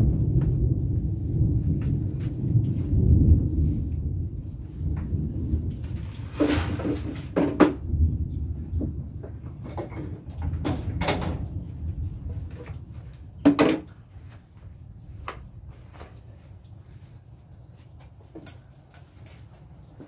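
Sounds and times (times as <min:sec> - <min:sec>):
steady low rumble: 0:00.0 - 0:18.3.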